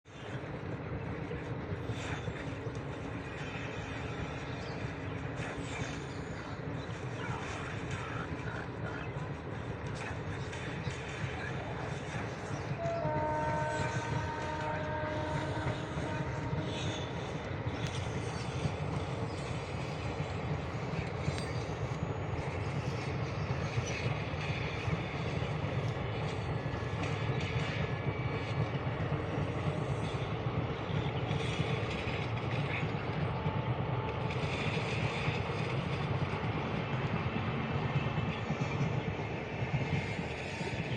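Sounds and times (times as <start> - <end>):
train rumbling along track: 0.0 - 40.9.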